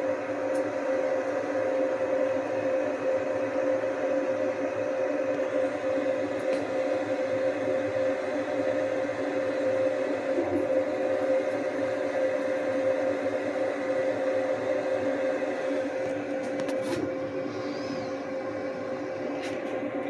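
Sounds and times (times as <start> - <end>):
laser engraver fans humming: 0.0 - 20.0.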